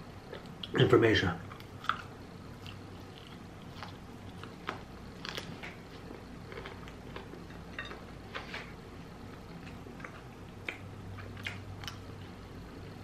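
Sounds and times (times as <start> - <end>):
chewing crunchy food: 1.5 - 12.5.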